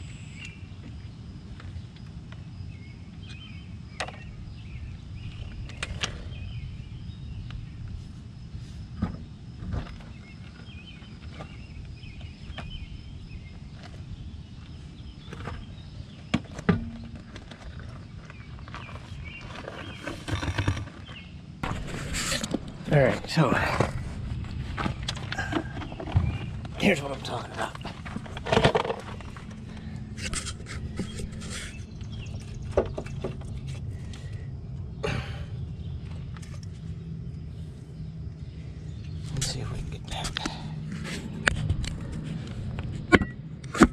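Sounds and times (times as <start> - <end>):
low outdoor rumble: 0.0 - 43.9.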